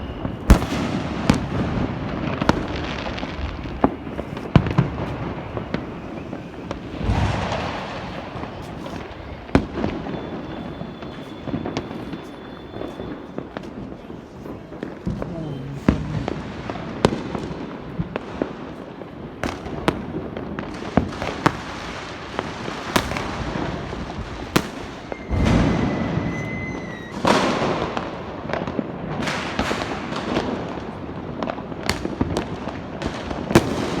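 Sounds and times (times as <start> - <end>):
firework whistle: 0.0 - 28.5
firecrackers banging: 0.0 - 34.0.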